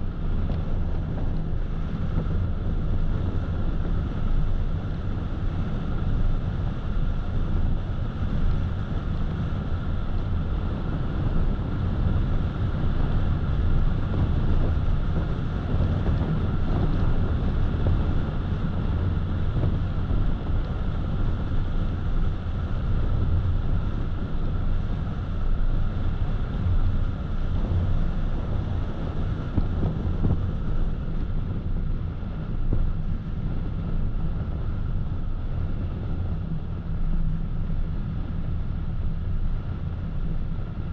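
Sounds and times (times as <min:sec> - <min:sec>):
wind noise: 0:00.0 - 0:40.9.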